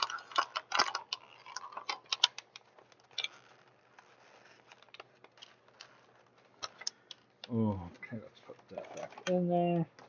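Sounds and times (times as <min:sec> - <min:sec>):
small plastic items clicking: 0:00.0 - 0:08.1.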